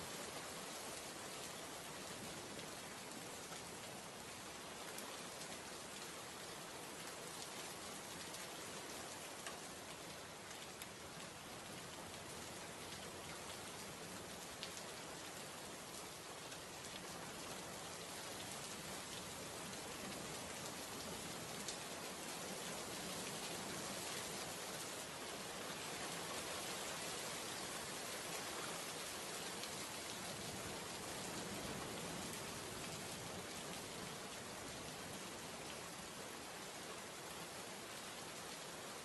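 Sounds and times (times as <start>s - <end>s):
heavy rain splashing on ground: 0.0s - 39.0s.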